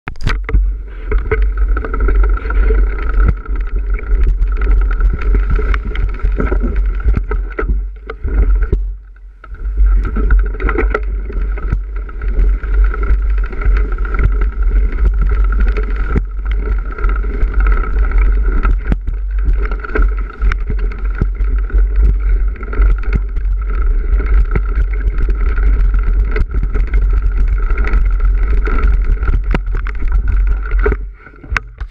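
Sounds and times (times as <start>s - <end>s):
bike knocking and rattling: 0.1s - 31.9s
wind buffeting microphone: 0.4s - 31.9s.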